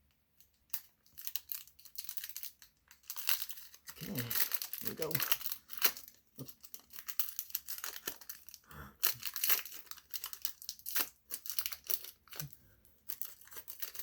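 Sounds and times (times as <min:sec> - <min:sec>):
foil wrapper tearing and crinkling: 0:00.7 - 0:14.0.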